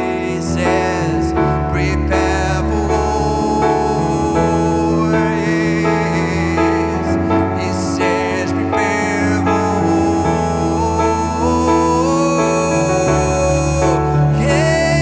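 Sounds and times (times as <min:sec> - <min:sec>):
keyboard chords: 0:00.0 - 0:15.0
person singing: 0:00.0 - 0:15.0.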